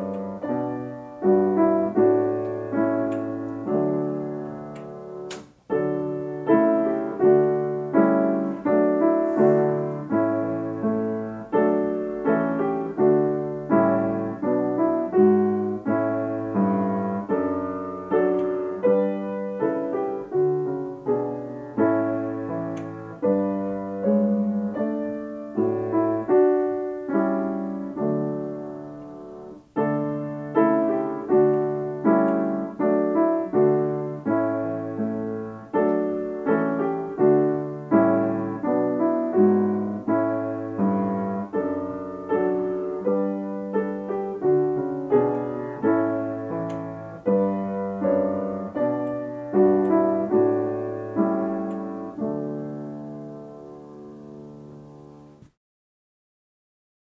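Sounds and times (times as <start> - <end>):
piano playing slow chords: 0.0 - 55.5.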